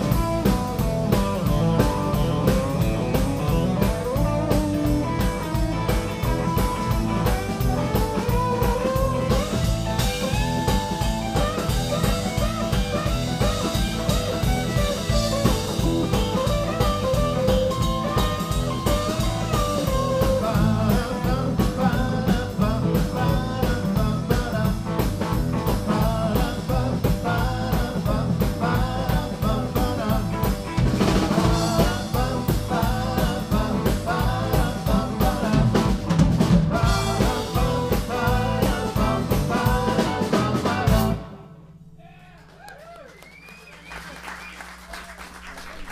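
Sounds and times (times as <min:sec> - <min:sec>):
drum kit beat: 0:00.0 - 0:41.2
electric bass: 0:00.0 - 0:42.0
electric guitar lead lines: 0:00.0 - 0:42.0.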